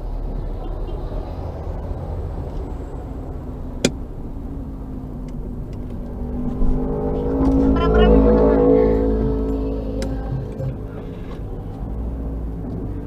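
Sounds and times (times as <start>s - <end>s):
car engine running: 1.5s - 13.0s.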